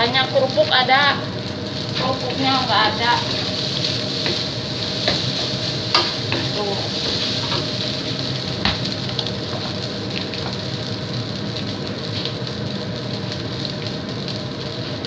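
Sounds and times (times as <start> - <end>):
rice sizzling in a wok: 0.0 - 15.0.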